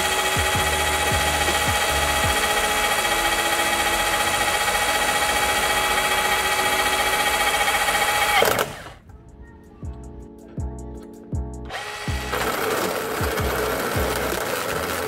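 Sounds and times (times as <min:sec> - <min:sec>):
motor spinning down: 0:00.0 - 0:09.0, 0:11.7 - 0:15.0
rotary hammer motor whine: 0:00.0 - 0:09.0, 0:11.7 - 0:15.0.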